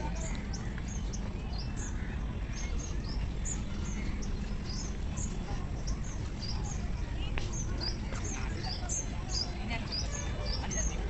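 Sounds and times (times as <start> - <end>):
steady low rumble: 0.0 - 10.2
small birds chirping: 0.0 - 11.0.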